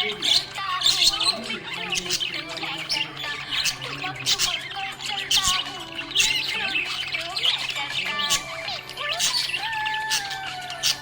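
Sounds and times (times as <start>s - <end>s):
budgies chirping and warbling: 0.0s - 11.0s.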